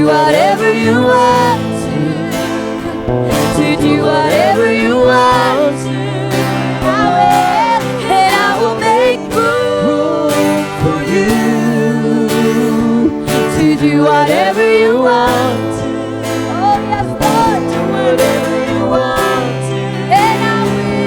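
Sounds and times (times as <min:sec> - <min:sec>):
person singing: 0:00.0 - 0:21.0
sustained chords with guitar: 0:00.0 - 0:21.0.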